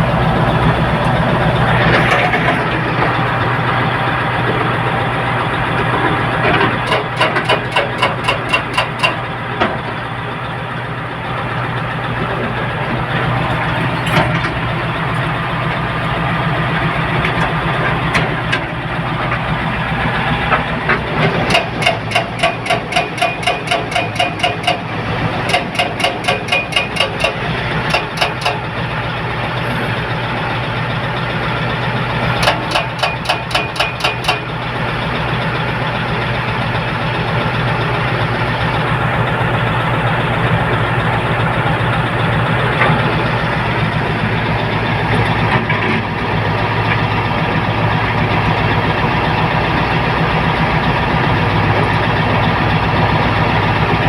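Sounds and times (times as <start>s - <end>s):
diesel machinery engines running: 0.0s - 54.0s.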